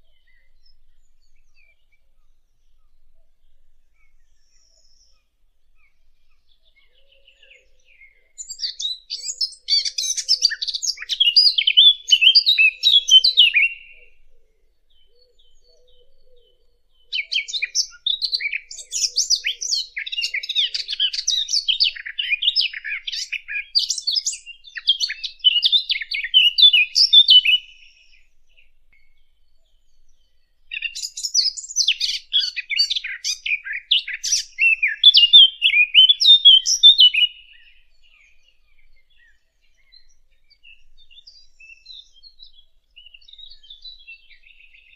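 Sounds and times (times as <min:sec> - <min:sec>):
bird singing warbling song: 0:00.0 - 0:44.9.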